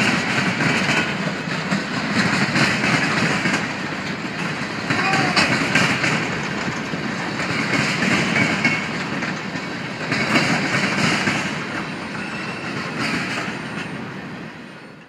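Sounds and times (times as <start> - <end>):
wheels clicking over rail joints: 0.0 - 14.0
freight train rolling: 0.0 - 15.0.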